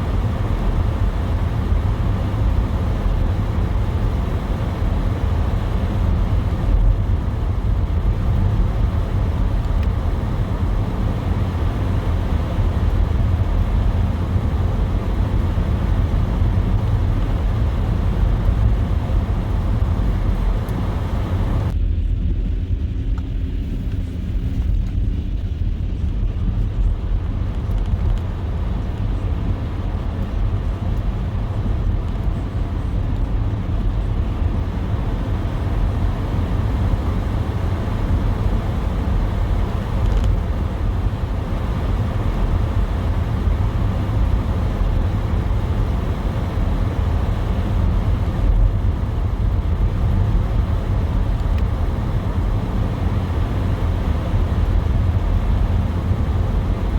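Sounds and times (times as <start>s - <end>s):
car engine and tyre noise: 0.0s - 56.9s
deep rumble: 0.0s - 56.9s.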